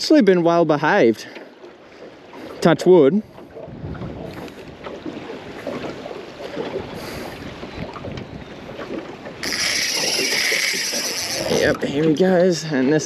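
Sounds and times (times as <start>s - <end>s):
water sloshing around boat: 0.0s - 13.0s
wind buffeting microphone: 2.4s - 13.0s.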